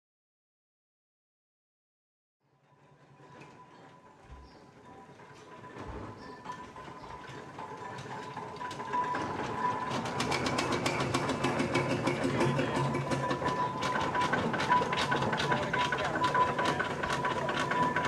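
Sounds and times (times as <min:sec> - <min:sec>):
steam traction engine clanking and chuffing: 0:02.8 - 0:18.0.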